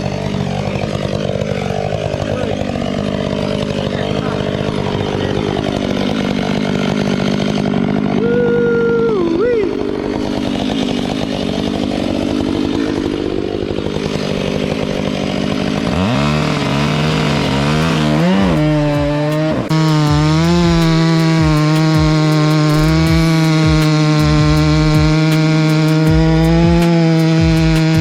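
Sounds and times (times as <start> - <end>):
chainsaw cutting at high revs: 0.0 - 28.0.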